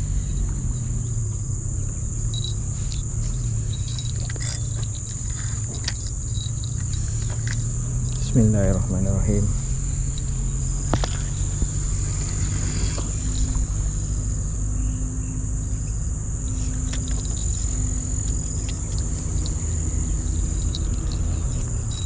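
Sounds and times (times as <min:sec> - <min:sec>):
high-pitched insect drone: 0:00.0 - 0:22.0
low rumble: 0:00.0 - 0:22.0.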